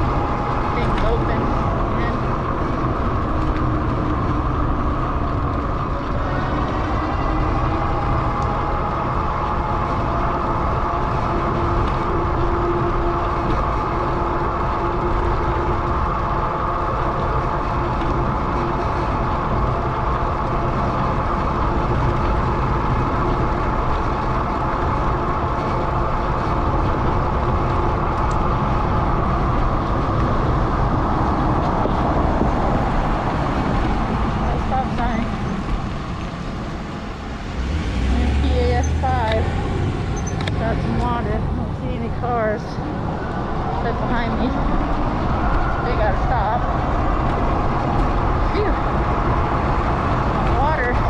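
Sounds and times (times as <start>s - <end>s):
faint steady whine: 0.0s - 51.0s
wind on microphone: 0.0s - 51.0s.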